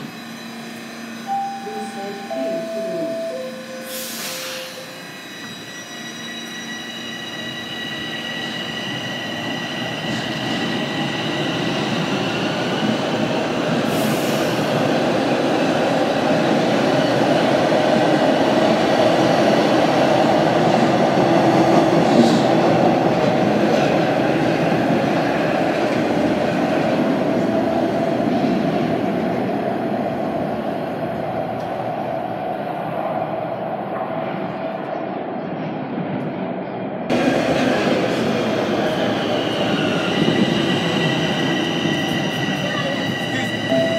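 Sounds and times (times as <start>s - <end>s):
subway train high whine: 0.0s - 43.9s.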